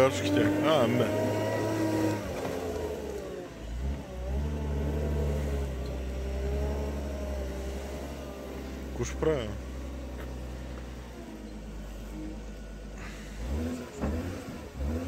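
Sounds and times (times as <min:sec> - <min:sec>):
forklift engine revving: 0:00.0 - 0:15.0.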